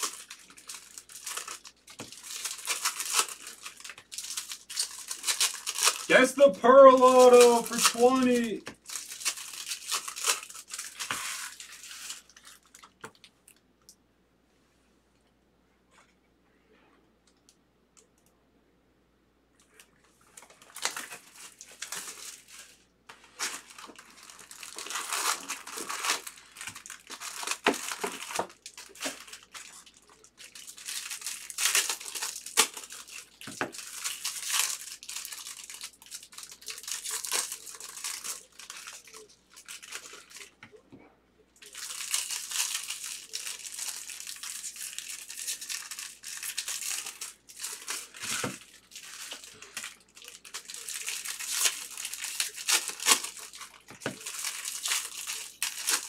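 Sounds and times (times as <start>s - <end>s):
foil wrappers crinkling and tearing: 0.0s - 13.3s, 19.7s - 40.6s, 41.6s - 56.0s.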